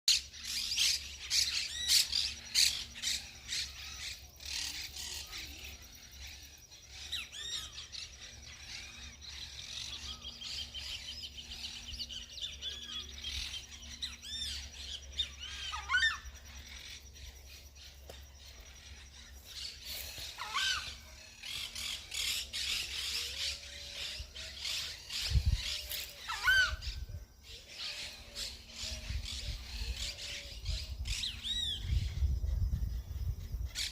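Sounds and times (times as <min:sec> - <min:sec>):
high bird trill: 0:00.1 - 0:32.4
birds chirping and whistling: 0:00.1 - 0:33.9.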